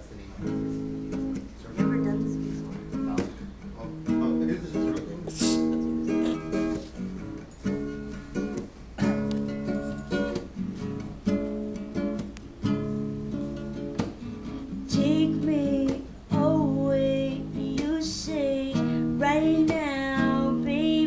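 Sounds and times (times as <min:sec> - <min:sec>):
acoustic guitar strumming chords: 0:00.4 - 0:21.0.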